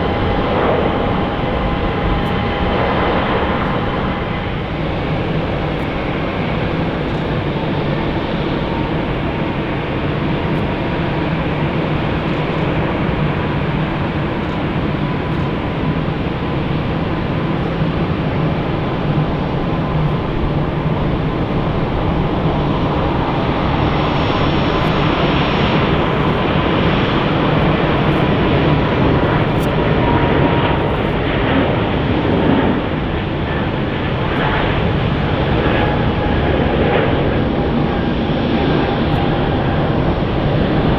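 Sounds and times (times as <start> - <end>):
jet engines rushing: 0.0 - 40.9.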